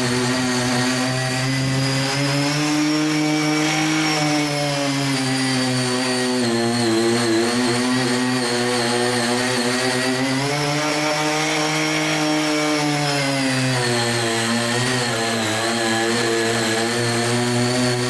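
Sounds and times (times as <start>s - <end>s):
blades churning sand and cement: 0.0s - 18.0s.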